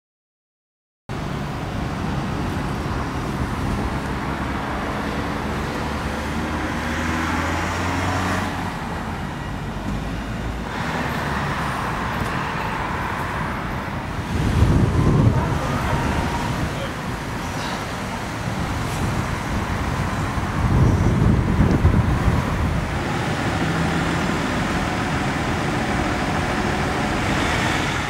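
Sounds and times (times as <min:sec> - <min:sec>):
passing vehicles: 0:01.1 - 0:28.0.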